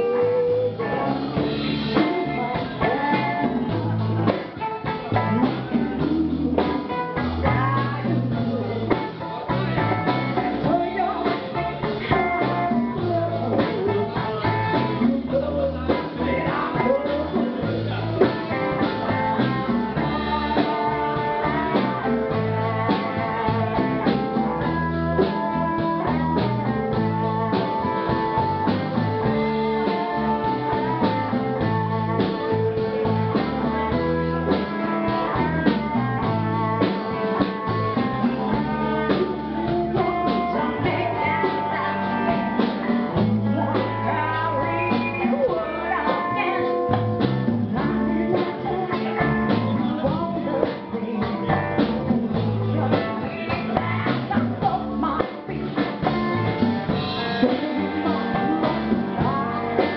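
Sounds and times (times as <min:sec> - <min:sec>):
live blues band with guitar: 0:00.0 - 0:59.9.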